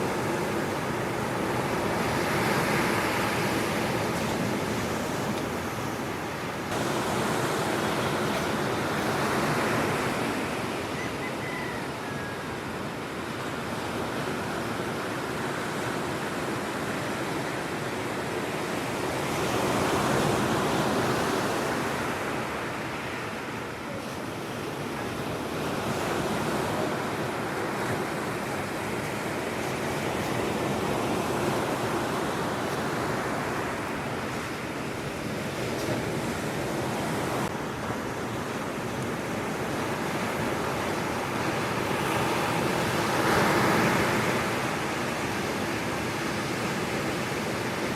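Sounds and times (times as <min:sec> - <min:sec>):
ocean waves breaking: 0:00.0 - 0:47.9
wind: 0:00.0 - 0:47.9.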